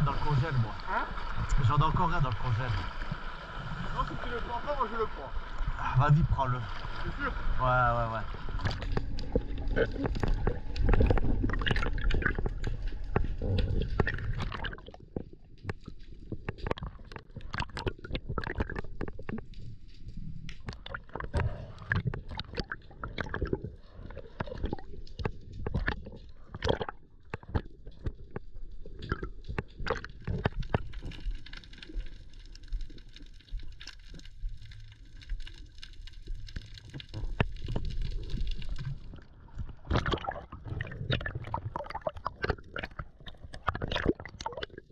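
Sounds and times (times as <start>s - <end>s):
water sloshing: 0.0s - 35.2s, 36.1s - 44.9s
underwater clicks and crackles: 0.0s - 44.9s
underwater rumble: 0.0s - 44.9s.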